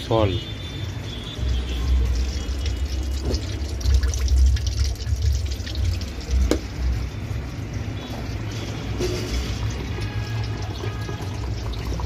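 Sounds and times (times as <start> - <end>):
water pouring onto floor: 0.9 - 12.0.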